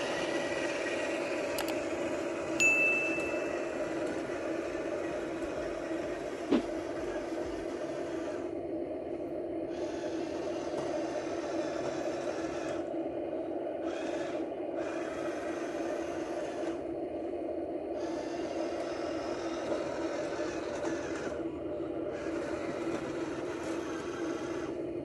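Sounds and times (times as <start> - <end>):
toy electric motors whirring: 0.0 - 8.5, 9.7 - 13.0, 13.8 - 16.8, 18.0 - 24.8
high gritty whirr: 0.0 - 25.0.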